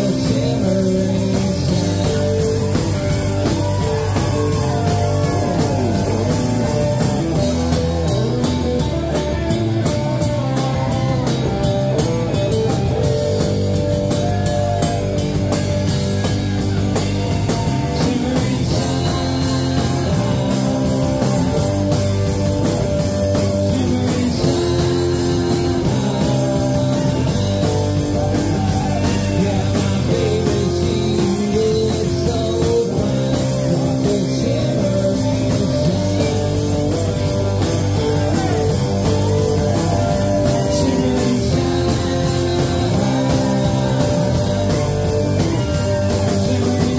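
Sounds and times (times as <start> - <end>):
live rock band playing: 0.0 - 46.9
man singing lead: 0.0 - 46.9.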